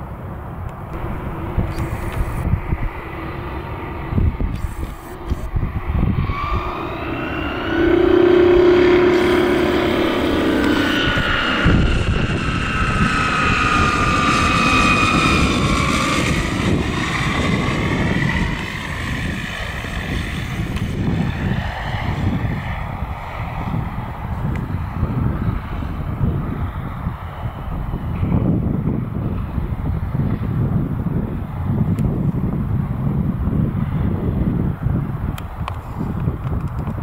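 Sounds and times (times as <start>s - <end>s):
propeller aircraft flying past: 0.0s - 35.4s.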